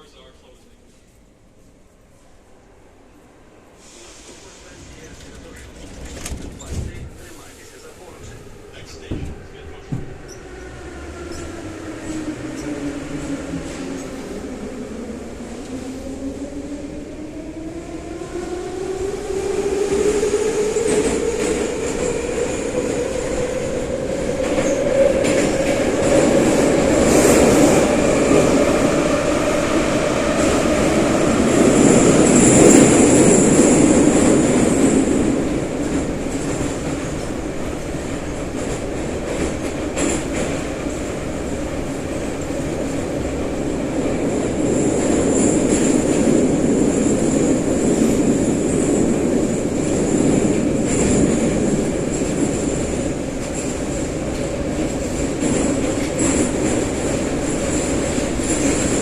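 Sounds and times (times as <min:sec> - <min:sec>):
wheels rumbling on rail: 0:03.8 - 0:59.0.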